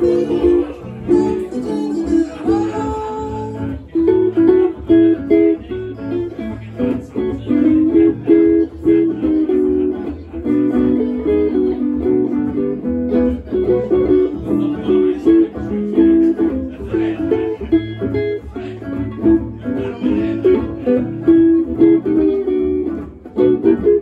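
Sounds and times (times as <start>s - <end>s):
electric guitars playing jazz: 0.0s - 24.0s.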